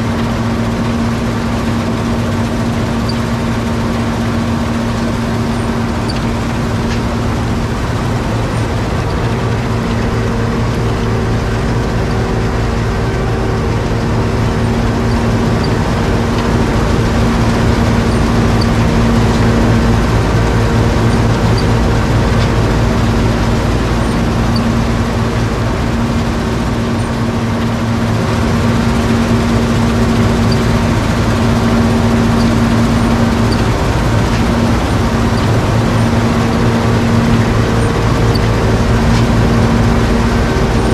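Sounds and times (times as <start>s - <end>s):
combine harvester droning: 0.0s - 40.9s.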